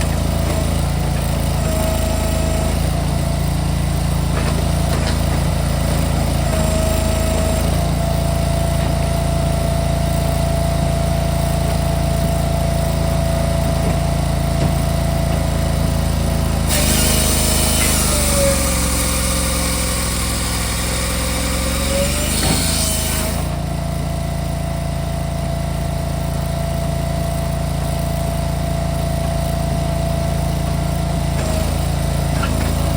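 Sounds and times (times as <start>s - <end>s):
harsh machine noise: 0.0s - 24.4s, 27.5s - 32.9s
firewood processor whining: 0.0s - 32.9s.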